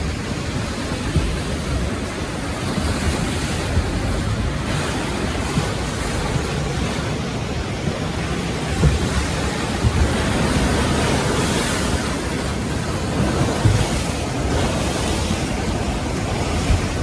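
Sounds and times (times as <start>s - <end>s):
rushing floodwater roar: 0.0s - 17.0s
wind buffeting microphone: 0.0s - 17.0s.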